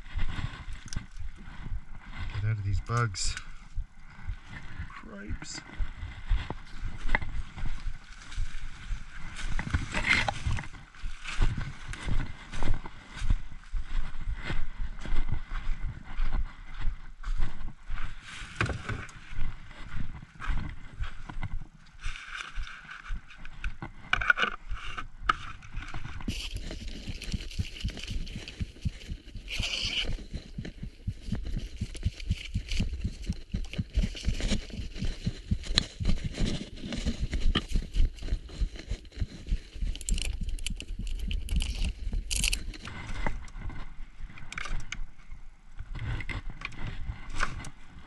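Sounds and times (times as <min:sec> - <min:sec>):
footsteps in undergrowth: 0:00.0 - 0:48.0
rustling undergrowth: 0:00.0 - 0:48.0.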